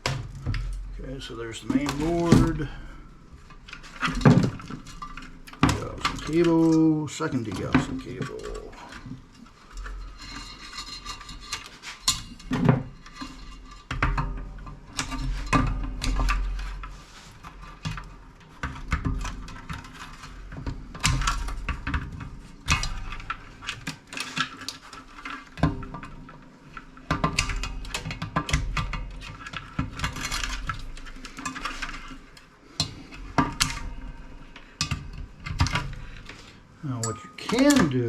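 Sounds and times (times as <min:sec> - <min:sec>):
parts and tools clattering: 0:00.0 - 0:38.0.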